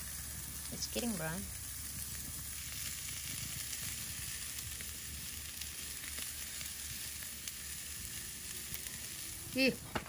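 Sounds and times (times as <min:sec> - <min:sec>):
charcoal fire hissing: 0:00.0 - 0:10.0
faint crackles: 0:00.0 - 0:10.0.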